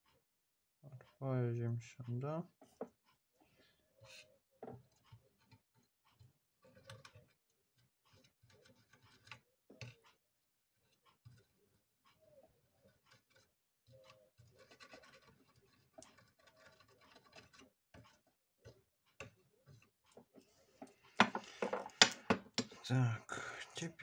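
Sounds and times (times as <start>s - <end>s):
scratching and small clicks: 2.5s - 10.2s, 10.8s - 22.8s.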